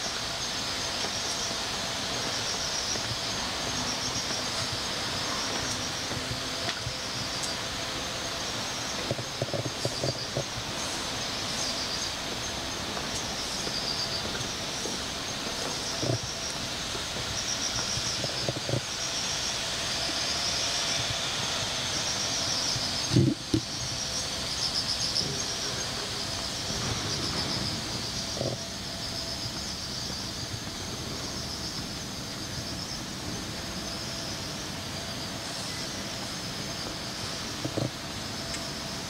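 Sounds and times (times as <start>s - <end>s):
cicadas buzzing: 0.0s - 39.0s.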